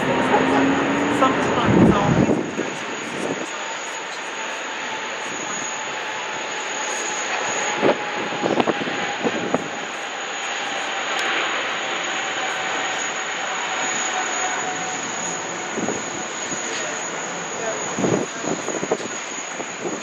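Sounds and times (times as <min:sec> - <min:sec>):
high-pitched engine whine: 0:00.0 - 0:20.0
jet engines running: 0:00.0 - 0:20.0.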